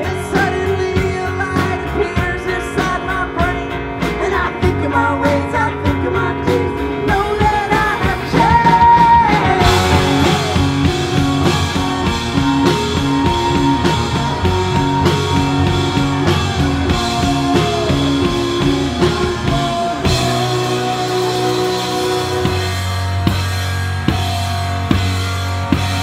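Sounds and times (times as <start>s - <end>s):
drum kit beat: 0.0s - 26.0s
rock band playing instrumental: 0.0s - 26.0s.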